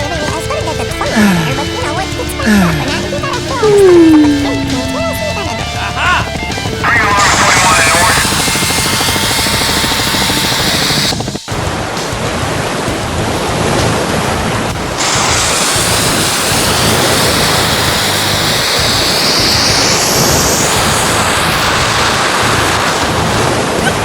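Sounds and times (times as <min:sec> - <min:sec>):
loud steady rushing noise: 0:00.0 - 0:24.0.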